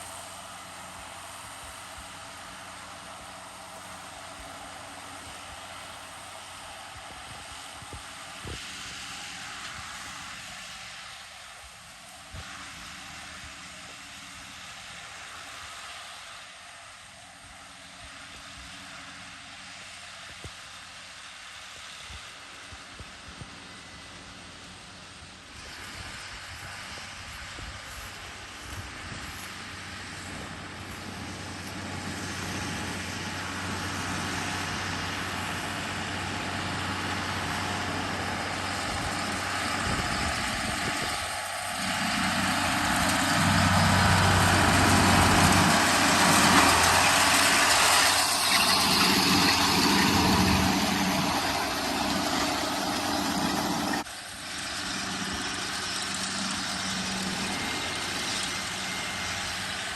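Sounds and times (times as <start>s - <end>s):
tractor engine running: 0.0s - 21.4s, 22.5s - 59.9s.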